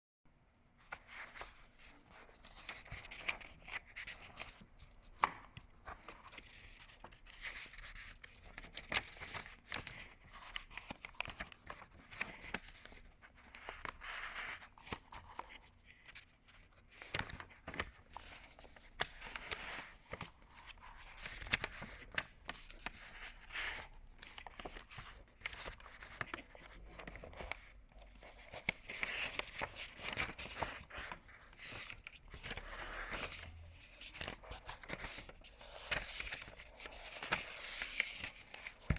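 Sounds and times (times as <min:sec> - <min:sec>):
book pages turning: 0:00.8 - 0:38.9.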